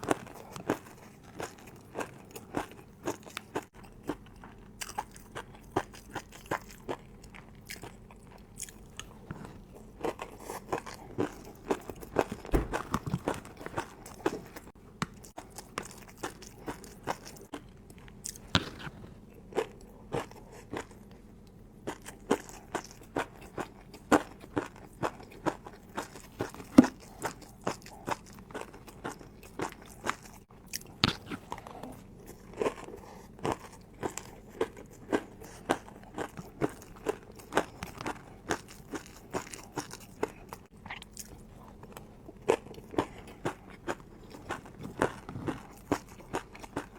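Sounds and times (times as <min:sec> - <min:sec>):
person chewing crunchy noodles: 0:00.0 - 0:46.9.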